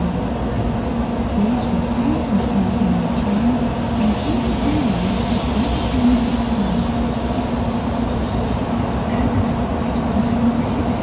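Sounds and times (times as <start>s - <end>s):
train ventilation running: 0.0s - 11.0s.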